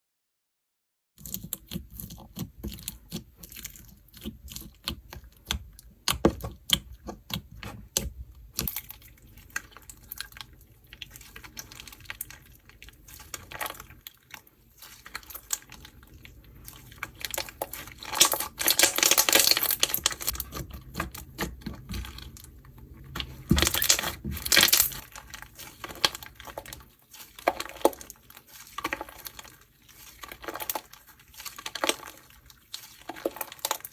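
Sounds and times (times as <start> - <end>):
slime crackling: 1.4 - 33.9.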